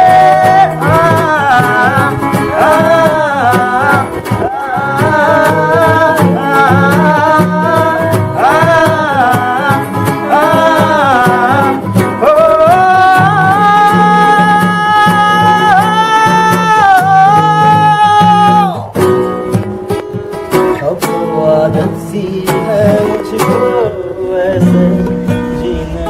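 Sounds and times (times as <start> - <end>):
person singing wordless vocal run: 0.0 - 19.0, 20.0 - 26.0
strummed acoustic guitar: 0.0 - 26.0.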